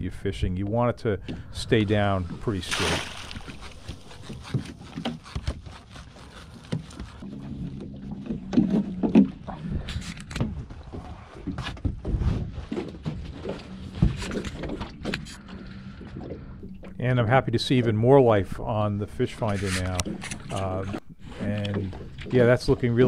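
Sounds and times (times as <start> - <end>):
low motor hum: 0.0 - 11.2, 13.0 - 23.0.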